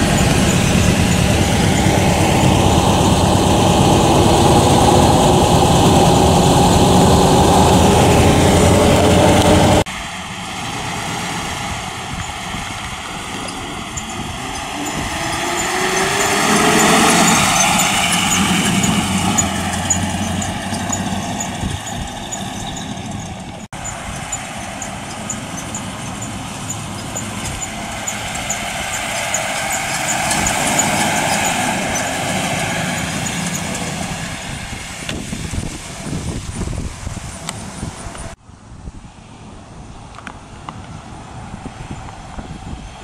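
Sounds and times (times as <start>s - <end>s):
car engine driving past: 0.0s - 38.4s.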